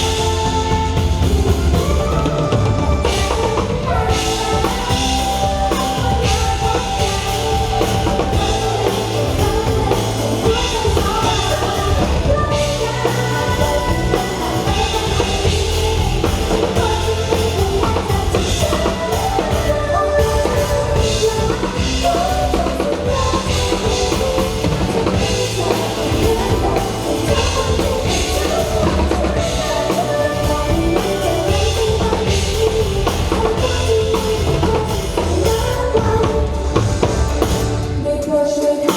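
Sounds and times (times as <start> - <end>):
drum-kit beat: 0.0 - 38.0
person singing: 0.0 - 38.9
pop-rock song: 0.0 - 38.9.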